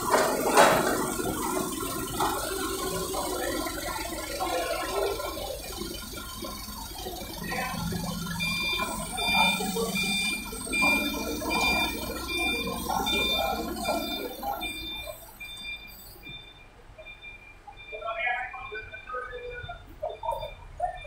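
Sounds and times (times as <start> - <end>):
forklift engine running: 0.0 - 21.0
forklift warning beeper: 0.0 - 21.0.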